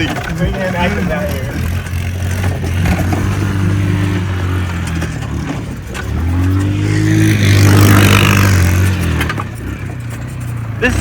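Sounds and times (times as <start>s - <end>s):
motorbike engine revving: 0.0s - 11.0s.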